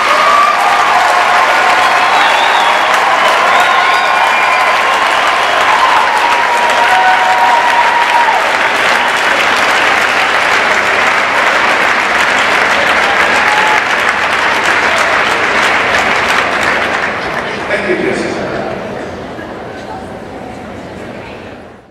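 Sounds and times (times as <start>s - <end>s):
crowd applauding: 0.0s - 18.2s.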